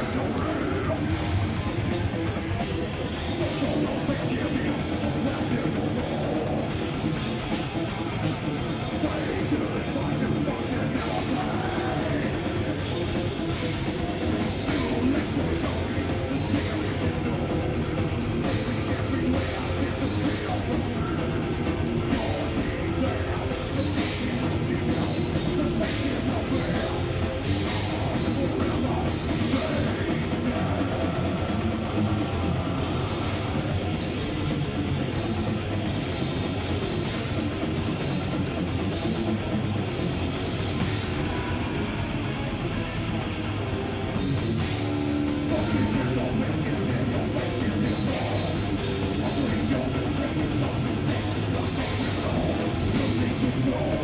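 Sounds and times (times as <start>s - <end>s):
distorted electric guitars: 0.0s - 54.0s
drum kit: 0.0s - 54.0s.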